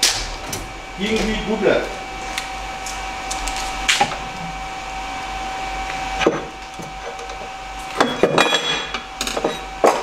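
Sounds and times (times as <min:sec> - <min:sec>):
workshop machinery whirring hum: 0:00.0 - 0:10.0.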